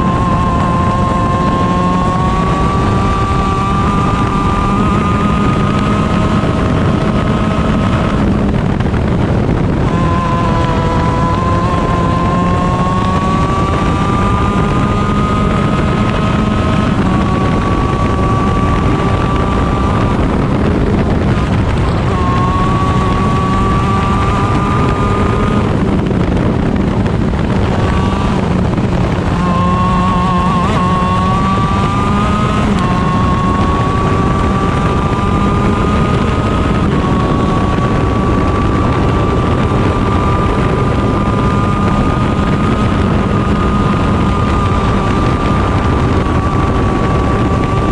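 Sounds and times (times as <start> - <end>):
kart engine at full throttle: 0.0 - 47.9
wind rushing over microphone: 0.0 - 47.9.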